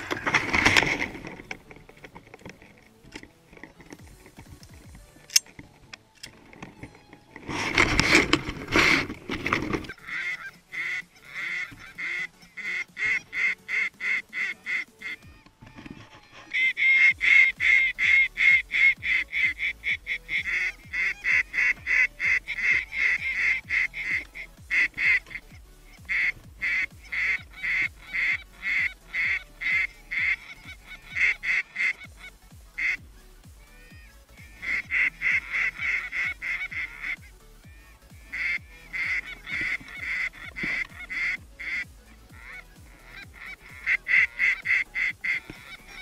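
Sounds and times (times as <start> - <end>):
geese honking: 0.0 - 46.0.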